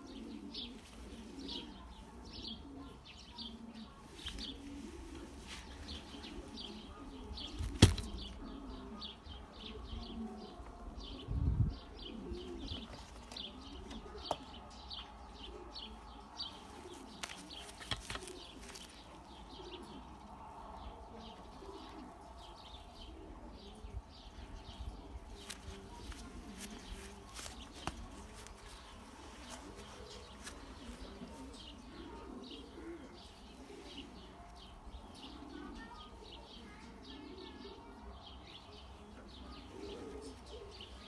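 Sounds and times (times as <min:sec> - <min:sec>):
pigeons cooing: 0:00.0 - 0:41.0
small birds chirping: 0:00.0 - 0:41.0.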